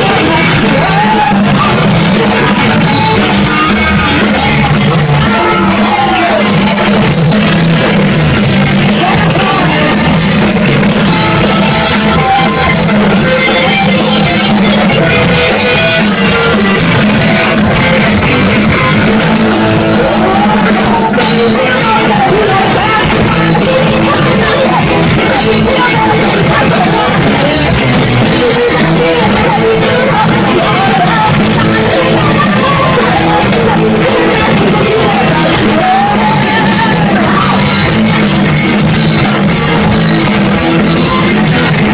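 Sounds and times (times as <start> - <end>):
bass guitar: 0.0 - 41.9
drum kit: 0.0 - 41.9
electric guitars: 0.0 - 41.9
person singing: 0.0 - 41.9.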